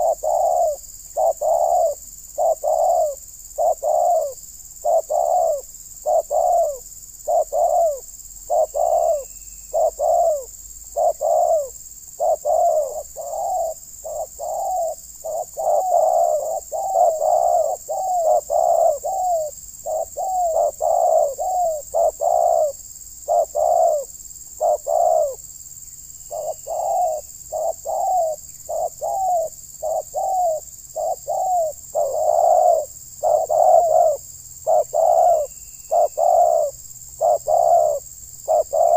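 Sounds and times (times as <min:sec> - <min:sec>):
dove cooing: 0:00.0 - 0:25.4, 0:26.3 - 0:38.9.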